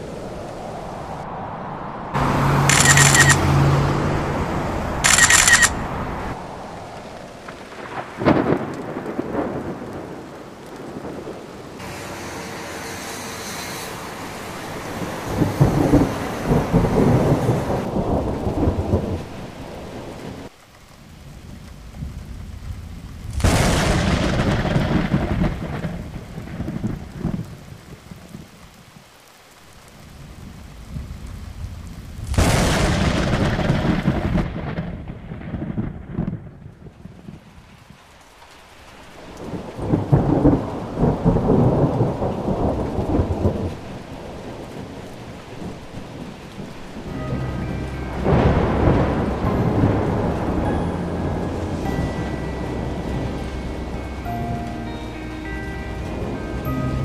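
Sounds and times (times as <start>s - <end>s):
steady rain: 0.0s - 57.0s
thunder claps and rumbles: 5.9s - 12.3s, 14.7s - 28.7s, 30.0s - 38.1s, 39.0s - 57.0s.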